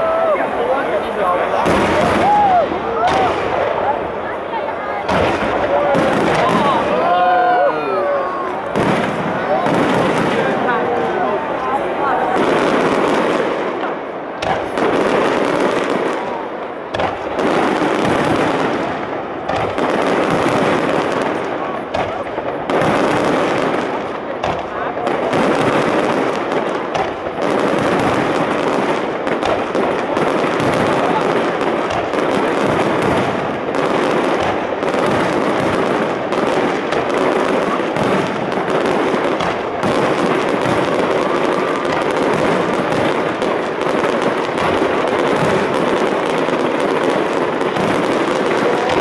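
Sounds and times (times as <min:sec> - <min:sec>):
fireworks crackling and popping: 0:00.0 - 0:49.0.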